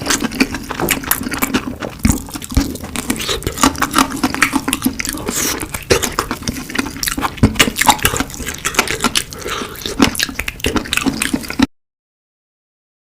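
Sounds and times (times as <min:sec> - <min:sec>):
person chewing wet food: 0:00.0 - 0:11.7.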